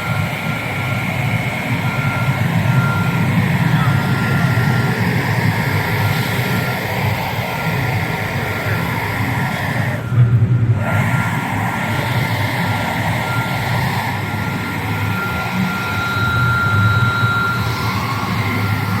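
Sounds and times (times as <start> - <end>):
thin high whine: 0.0 - 19.0
washing machine mechanical hum: 0.0 - 19.0.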